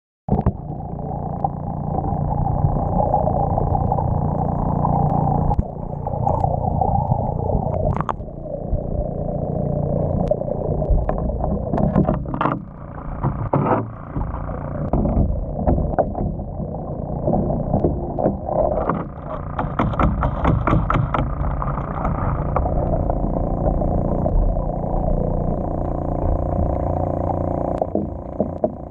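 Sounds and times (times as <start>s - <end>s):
muffled underwater rumble: 0.3s - 28.9s.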